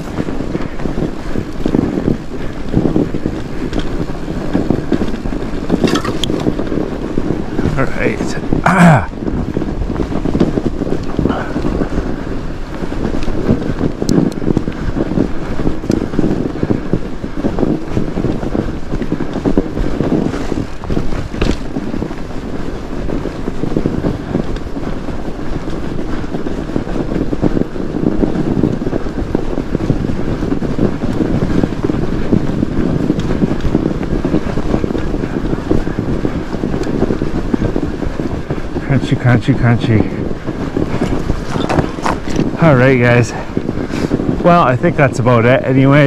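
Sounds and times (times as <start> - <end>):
bike tyres rolling through snow: 0.0 - 46.0
wind buffeting microphone: 0.0 - 46.0.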